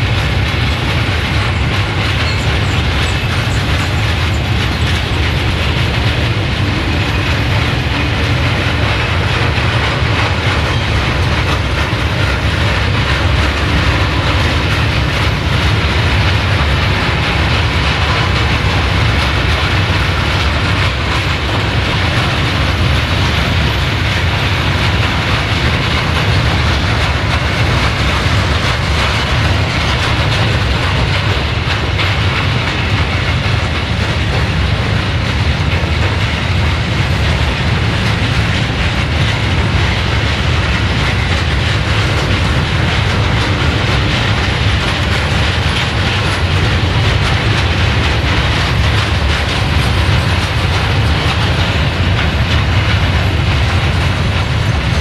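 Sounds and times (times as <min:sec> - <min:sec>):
freight train rumble and clatter: 0:00.0 - 0:55.0.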